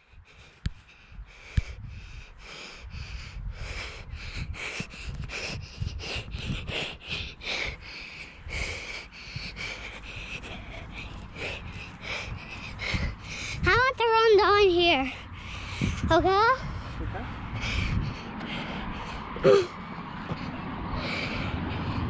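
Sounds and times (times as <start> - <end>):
child panting: 0.0 - 22.0.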